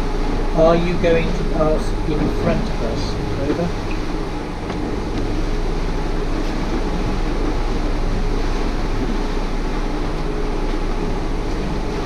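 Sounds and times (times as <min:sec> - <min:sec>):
diesel engine drone: 0:00.0 - 0:12.0
water rushing: 0:00.0 - 0:12.0
wind: 0:00.0 - 0:12.0.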